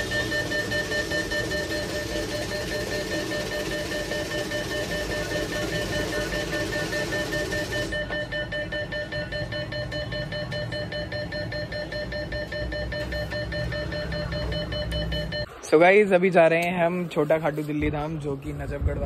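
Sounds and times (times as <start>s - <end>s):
machine whirr: 0.0s - 15.5s
cash machine beeping: 0.0s - 15.6s.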